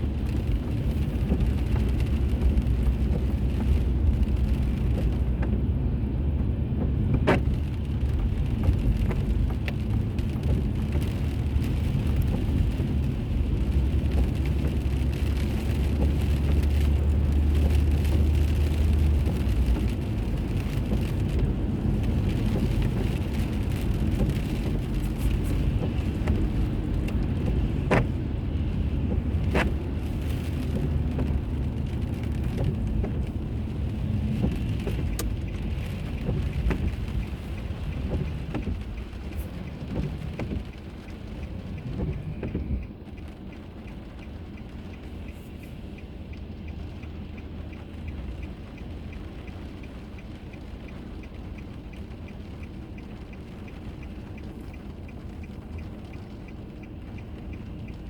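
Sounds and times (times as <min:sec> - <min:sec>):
car road and tyre noise: 0:00.0 - 0:58.0
faint regular ticking: 0:06.8 - 0:58.0.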